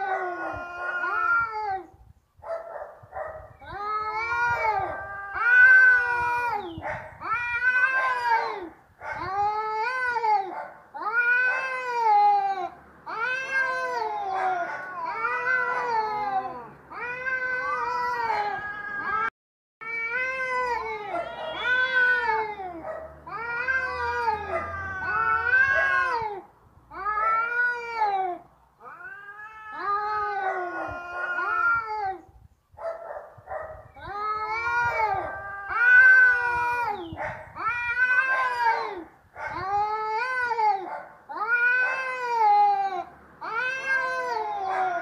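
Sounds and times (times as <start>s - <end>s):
cat yowling: 0.0s - 1.9s, 3.6s - 32.2s, 33.5s - 45.0s.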